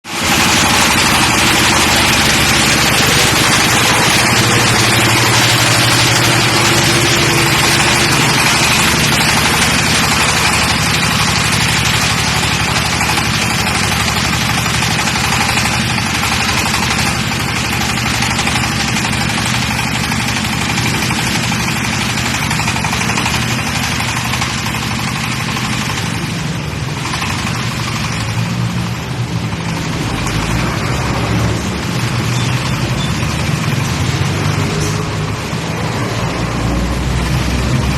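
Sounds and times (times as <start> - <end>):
drilling rig engine running: 0.1 - 37.9.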